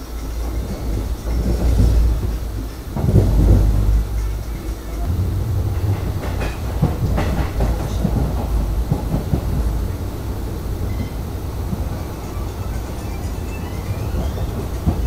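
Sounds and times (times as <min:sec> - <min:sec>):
train wheels rumbling on rails: 0:00.0 - 0:15.0
clicks and knocks: 0:00.1 - 0:15.0.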